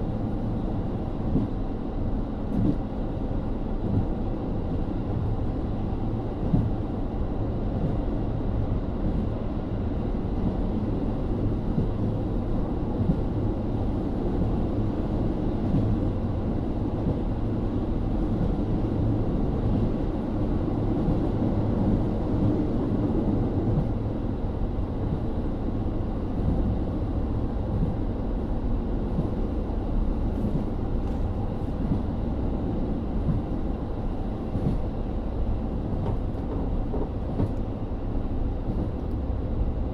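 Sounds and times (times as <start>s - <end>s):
wheel and rail rumble: 0.0s - 39.9s.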